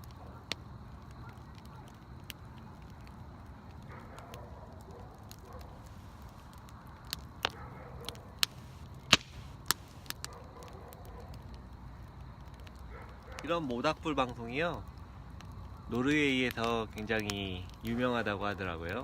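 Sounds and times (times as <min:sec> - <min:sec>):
sharp pops and snaps: 0:00.0 - 0:19.0
wood fire crackling: 0:00.0 - 0:19.0.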